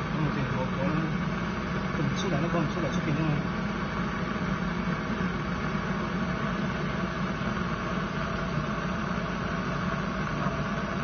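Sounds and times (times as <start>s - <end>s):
gas heater flame hissing: 0.0s - 11.0s.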